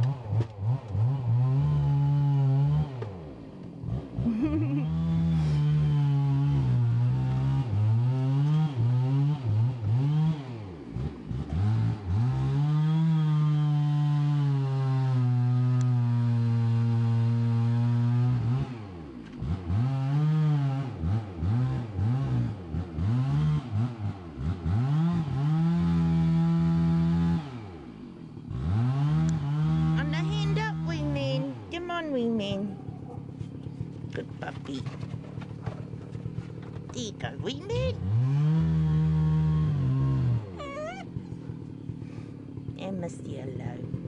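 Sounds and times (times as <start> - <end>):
chainsaw revving: 0.0 - 44.0.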